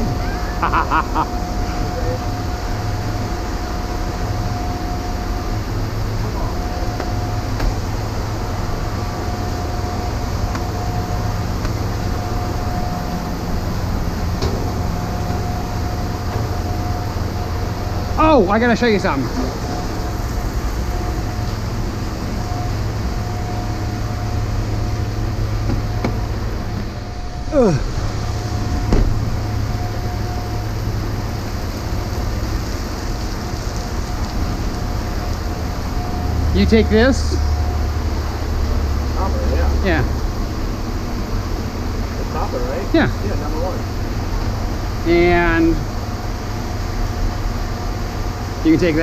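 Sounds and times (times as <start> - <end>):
faint constant whine: 0.0 - 49.0
low mechanical rumble: 0.0 - 49.0
low steady hum: 0.0 - 49.0
rain falling: 0.0 - 49.0.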